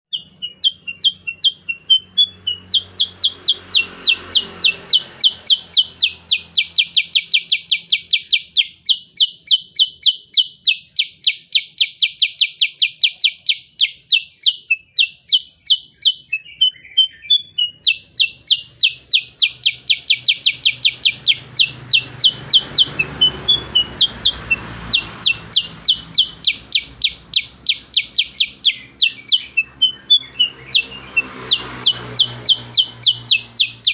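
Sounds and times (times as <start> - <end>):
bulbul singing rapid high notes: 0.0 - 33.9.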